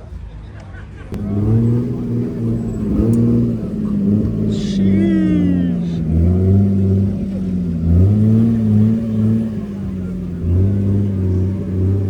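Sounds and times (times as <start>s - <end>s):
car engine running: 1.2s - 12.0s.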